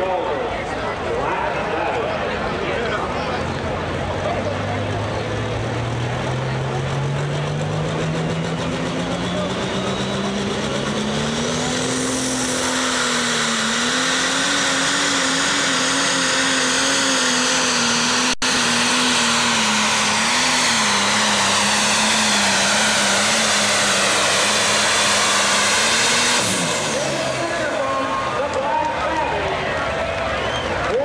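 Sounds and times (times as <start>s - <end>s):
tractor diesel engine at full throttle: 0.0s - 31.0s.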